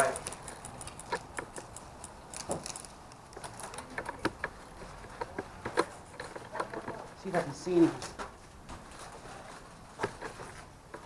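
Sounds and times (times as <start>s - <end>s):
faint irregular clicks and knocks: 0.0s - 11.0s.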